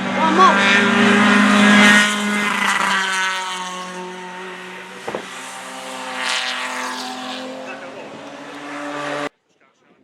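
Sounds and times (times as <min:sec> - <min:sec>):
race car engines passing: 0:00.0 - 0:09.4.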